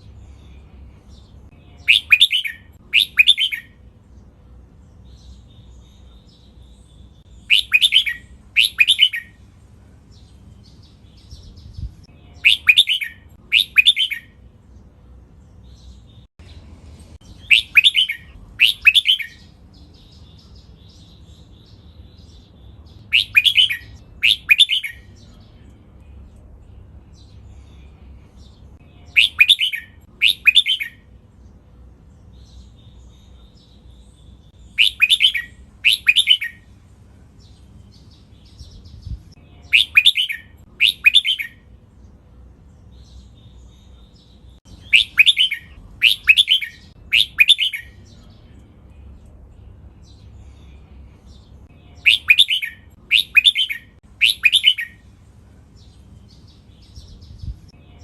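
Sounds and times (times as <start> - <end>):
soft bird twittering: 0.0 - 3.9, 4.8 - 9.4, 10.1 - 14.8, 15.4 - 36.7, 37.4 - 58.0.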